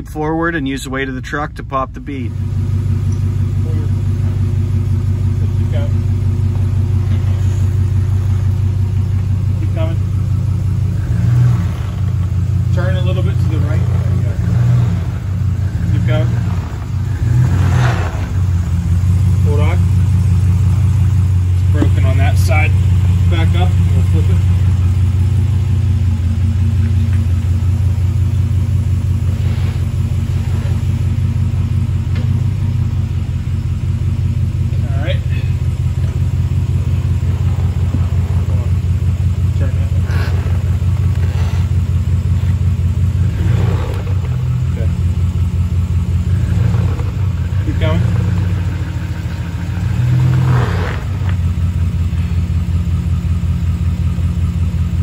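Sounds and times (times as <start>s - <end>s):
pickup engine low rumble: 0.0s - 55.0s.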